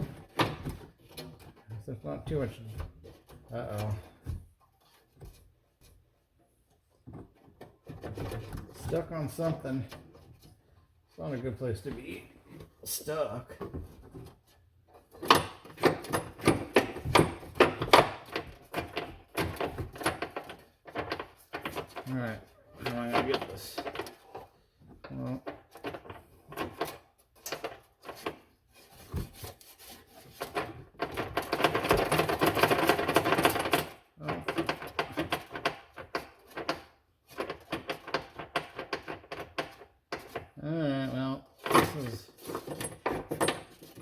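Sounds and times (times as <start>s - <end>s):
metal rattling and clicking: 0.0s - 44.0s.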